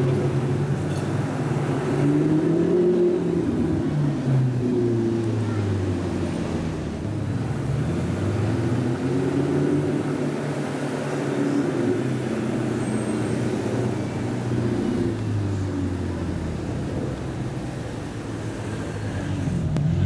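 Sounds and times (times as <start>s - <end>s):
sports car engines idling in traffic: 0.0s - 20.0s.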